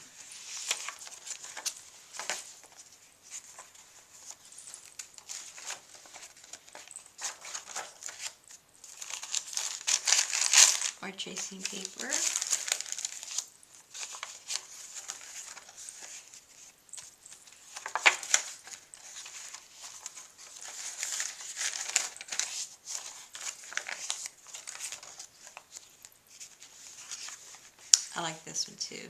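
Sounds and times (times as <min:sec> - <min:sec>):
paper pages rustling: 0:00.0 - 0:28.1.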